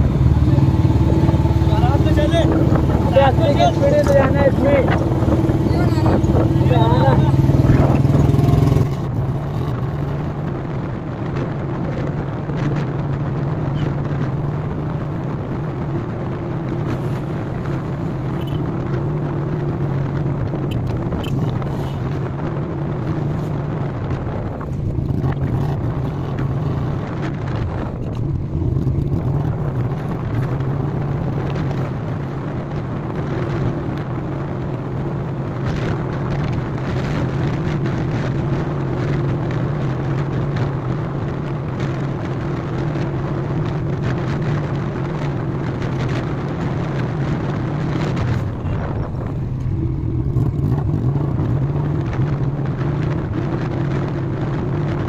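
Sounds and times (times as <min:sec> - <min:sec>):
motorcycle engine cruising: 0:00.0 - 0:55.0
wind on microphone: 0:00.0 - 0:55.0.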